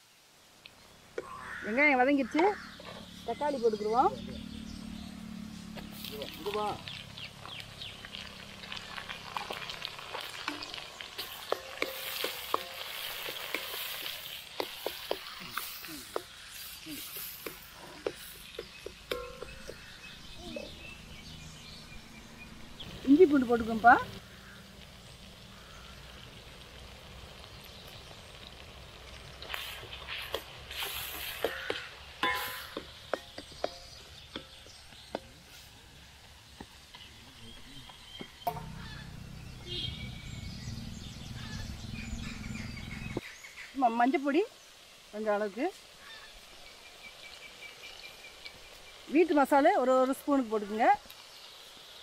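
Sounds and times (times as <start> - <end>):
vegetables frying in oil: 0.0 - 52.0.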